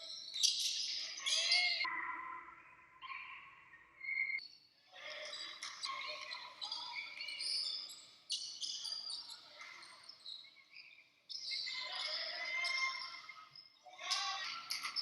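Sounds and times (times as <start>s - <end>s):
voices in background: 0.0s - 15.0s.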